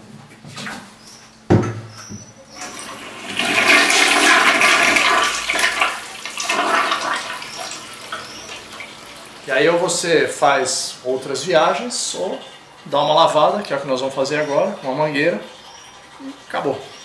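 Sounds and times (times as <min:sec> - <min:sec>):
toilet flushing: 0:02.6 - 0:17.0.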